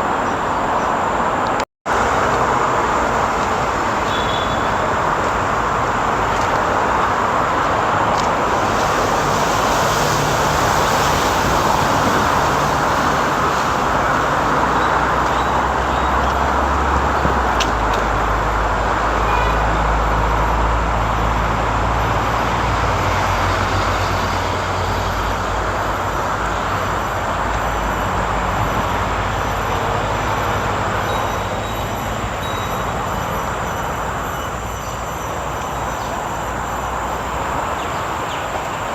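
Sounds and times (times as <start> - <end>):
road traffic noise: 0.0 - 38.9.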